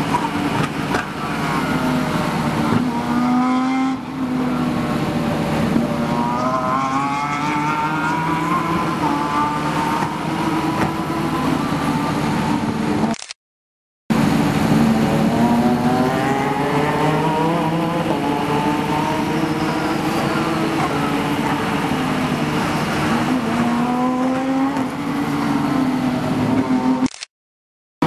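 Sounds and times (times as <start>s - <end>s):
race car engines revving past: 0.0s - 13.1s, 14.2s - 27.1s.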